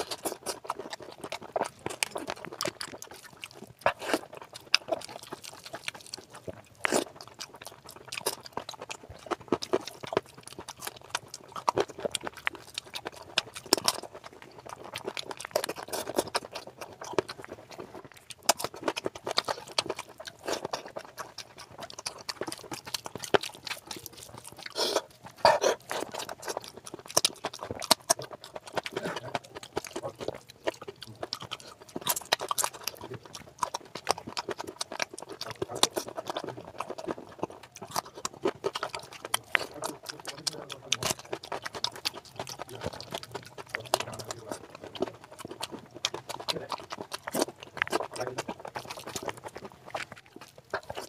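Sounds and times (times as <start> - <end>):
wet chewing and lip-smacking: 0.0 - 51.0.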